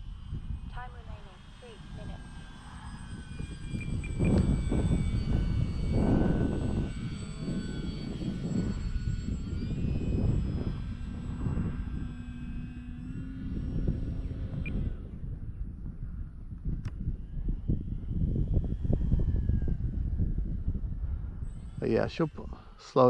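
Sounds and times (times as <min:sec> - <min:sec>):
model plane propeller whining: 0:00.0 - 0:23.0
wind buffeting microphone: 0:00.0 - 0:23.0.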